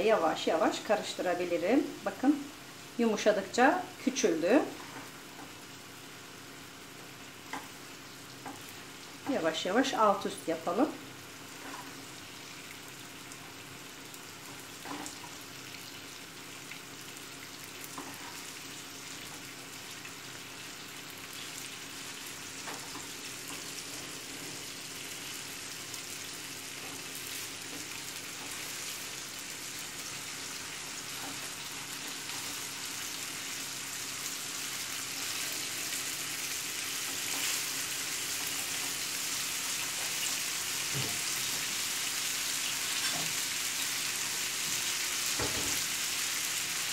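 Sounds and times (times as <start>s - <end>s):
noodles sizzling in a frying pan: 0.0s - 46.9s.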